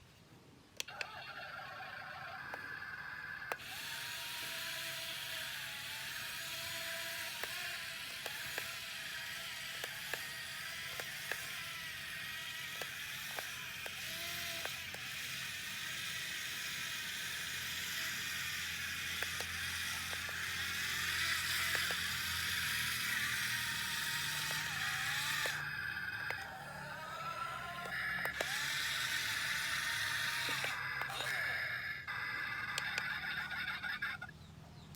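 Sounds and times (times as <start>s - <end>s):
electric motors whirring: 0.8s - 34.9s
clicks from moving parts: 3.5s - 33.5s.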